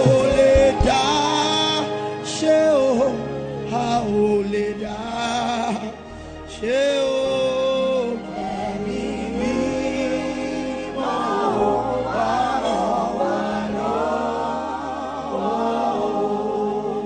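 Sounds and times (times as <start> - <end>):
gospel singing voices: 0.0 - 17.0
low chordal accompaniment: 0.0 - 17.0.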